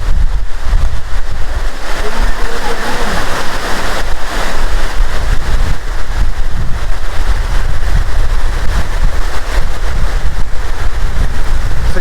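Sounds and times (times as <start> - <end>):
waterfall rushing: 0.0 - 12.0
wind buffeting microphone: 0.0 - 12.0.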